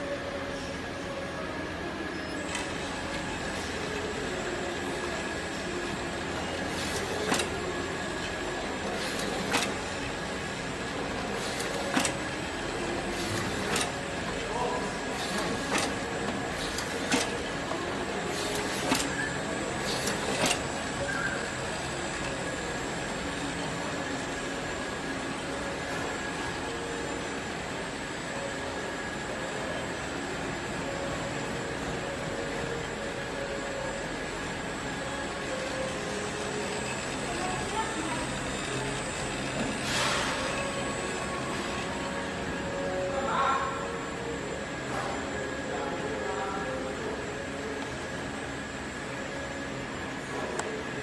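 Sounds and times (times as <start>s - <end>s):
labeling machine hum: 0.0s - 51.0s.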